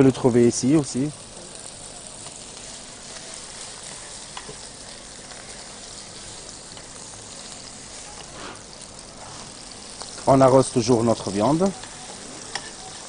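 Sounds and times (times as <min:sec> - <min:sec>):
meat sizzling in butter: 0:00.0 - 0:13.0.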